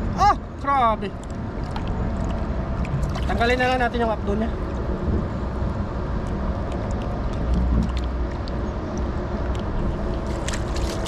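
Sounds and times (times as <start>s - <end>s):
wind and sea rumble: 0.0s - 11.0s.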